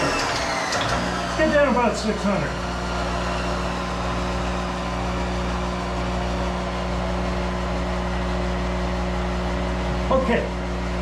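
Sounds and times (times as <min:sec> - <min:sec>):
lathe humming: 0:00.0 - 0:11.0.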